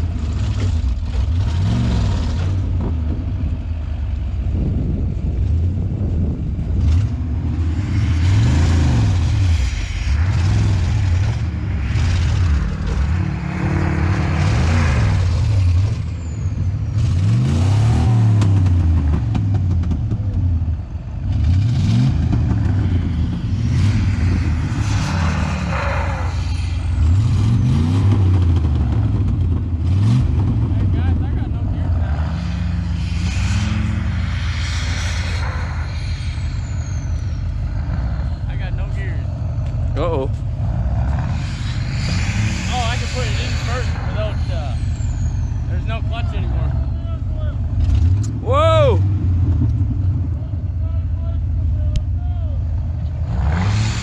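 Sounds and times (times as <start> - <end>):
truck engine revving under load: 0.0 - 3.9, 5.8 - 50.4, 52.7 - 54.0.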